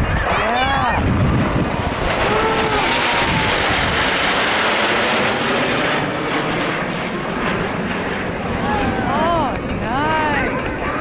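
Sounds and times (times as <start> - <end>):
jet aircraft passing overhead: 0.0 - 11.0.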